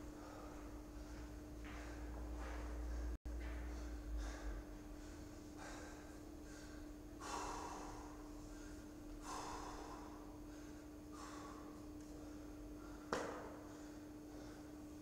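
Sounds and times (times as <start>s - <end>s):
man breathing heavily: 0.0s - 15.0s.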